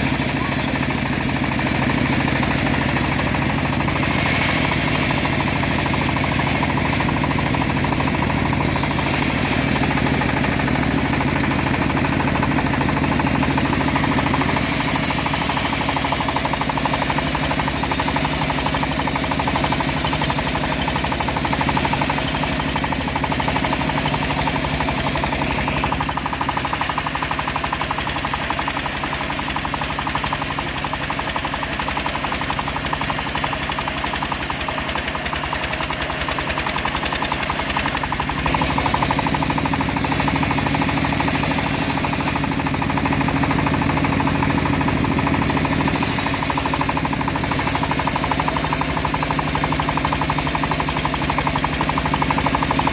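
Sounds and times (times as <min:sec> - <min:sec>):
engine-driven bandsaw knocking: 0:00.0 - 0:52.9.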